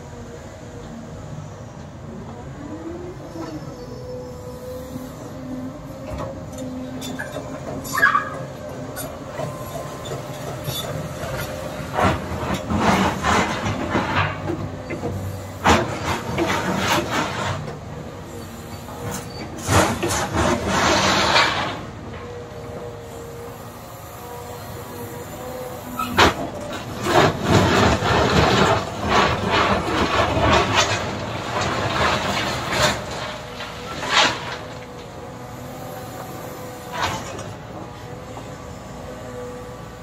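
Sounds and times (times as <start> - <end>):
excavator engine whining: 0.0 - 40.0.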